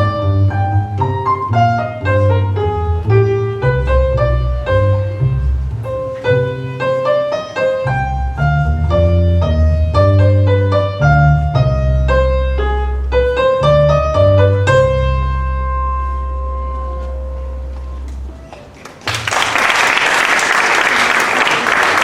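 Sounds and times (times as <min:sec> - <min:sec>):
baroque piano music: 0:00.0 - 0:18.3.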